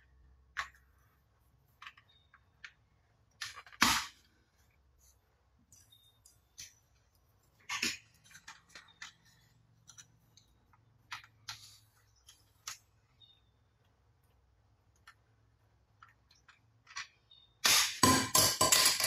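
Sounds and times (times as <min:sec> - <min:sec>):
plastic parts clicking and tapping: 0:00.1 - 0:04.7, 0:05.6 - 0:19.0.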